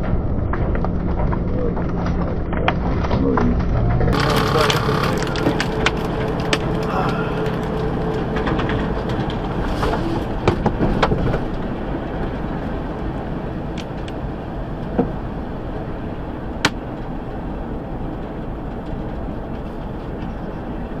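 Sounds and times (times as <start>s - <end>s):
vehicle rumbling: 0.0s - 21.0s.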